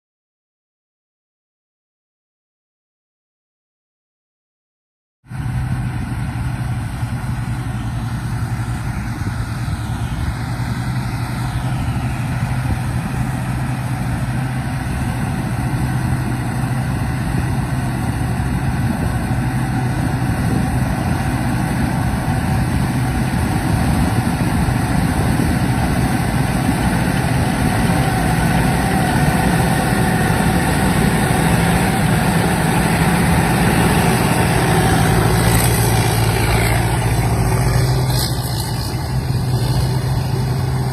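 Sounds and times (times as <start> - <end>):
combine harvester engine running: 5.3 - 40.9.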